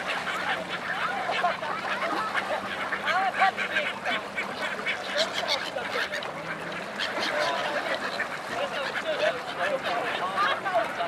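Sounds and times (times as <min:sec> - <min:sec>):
birds splashing on water: 0:00.0 - 0:11.0
gulls and ducks calling: 0:00.0 - 0:11.0.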